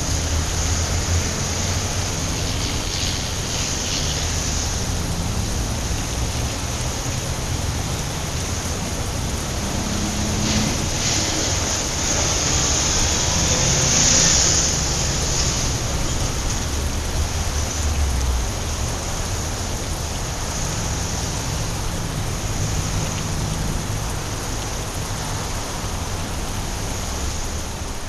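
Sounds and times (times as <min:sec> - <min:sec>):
rain on a wet street: 0:00.0 - 0:28.0.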